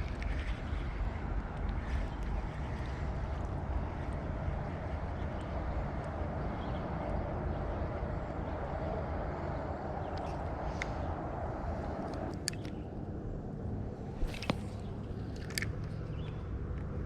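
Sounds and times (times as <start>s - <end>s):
constant rushing hiss: 0.0s - 17.0s
wind rumble on microphone: 0.0s - 17.0s.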